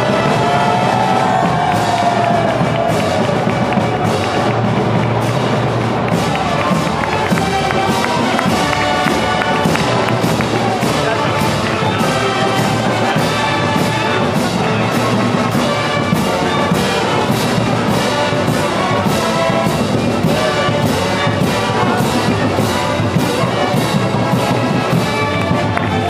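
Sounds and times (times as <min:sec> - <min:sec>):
brass band playing a march: 0:00.0 - 0:26.0
drums and cymbals: 0:00.0 - 0:26.0.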